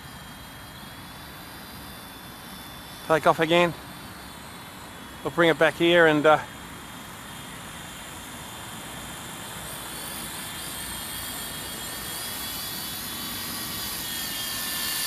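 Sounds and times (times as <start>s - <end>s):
helicopter rotor noise: 0.0s - 15.0s
high-pitched motor whine: 0.0s - 15.0s.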